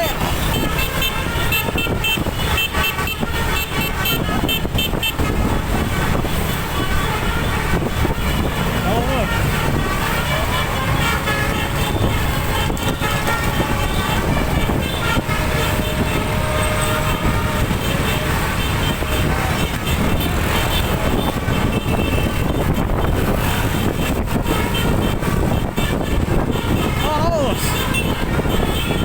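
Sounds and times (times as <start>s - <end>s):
bus air horn tones: 0.0s - 29.0s
road and engine rumble: 0.0s - 29.0s.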